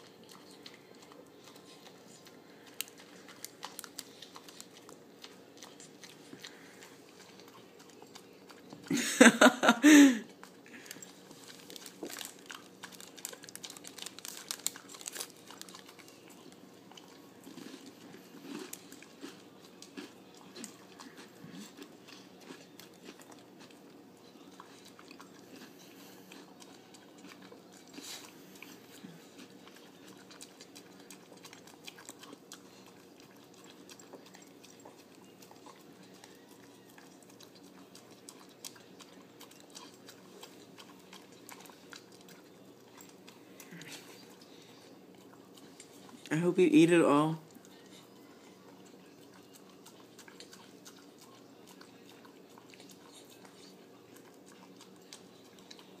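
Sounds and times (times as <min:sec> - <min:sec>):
dog chewing and licking: 0:00.0 - 0:09.0, 0:10.3 - 0:56.0.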